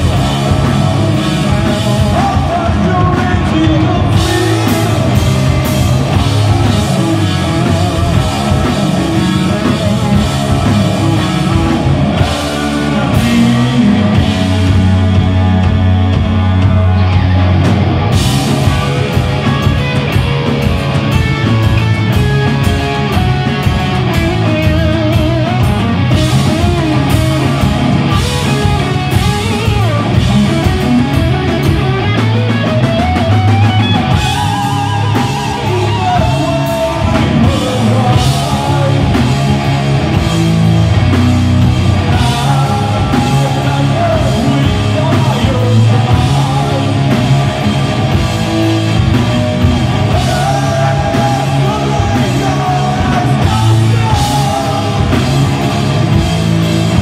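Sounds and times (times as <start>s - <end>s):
bass guitar: 0.0s - 57.0s
distorted electric guitars: 0.0s - 57.0s
drum kit beat with cymbals: 0.0s - 57.0s.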